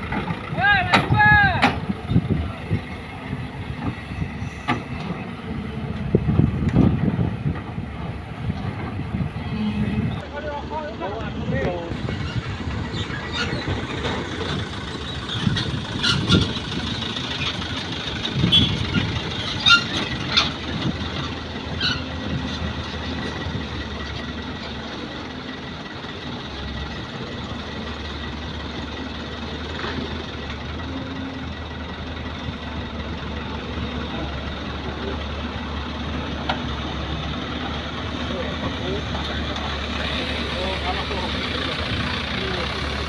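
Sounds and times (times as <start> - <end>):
diesel truck engines idling: 0.0 - 43.0.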